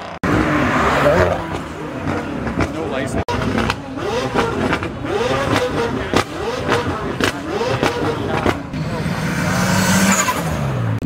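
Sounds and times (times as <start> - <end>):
car accelerating: 0.0 - 11.0
car engine revving in blips: 0.0 - 11.0.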